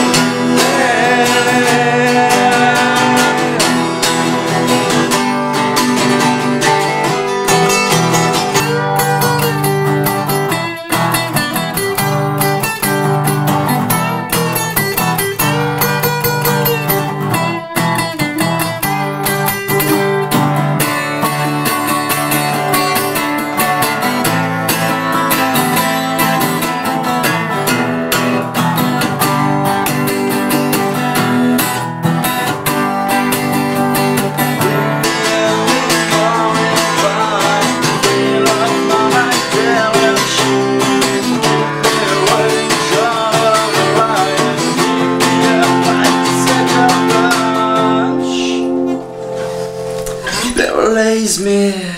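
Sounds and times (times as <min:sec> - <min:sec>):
acoustic guitars strumming: 0:00.0 - 0:51.9.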